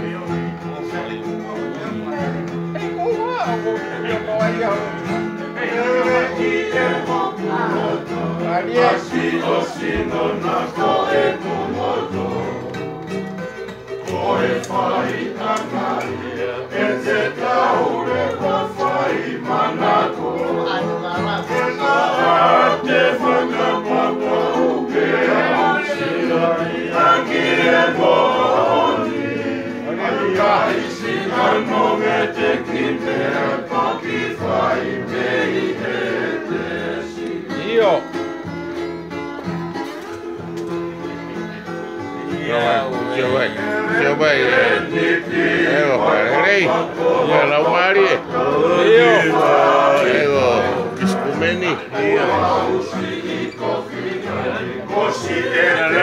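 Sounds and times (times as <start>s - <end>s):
group singing together: 0.0s - 39.2s, 40.0s - 56.0s
strummed acoustic guitar: 0.0s - 56.0s
ukuleles: 0.0s - 56.0s.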